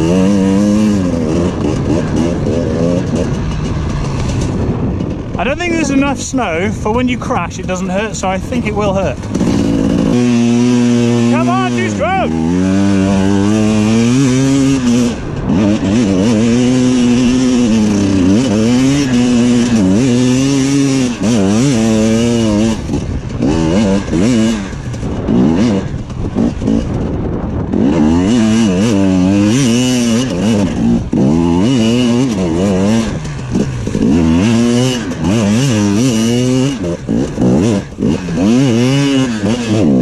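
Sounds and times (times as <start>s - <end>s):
two-stroke motorbike engine revving: 0.0s - 40.0s.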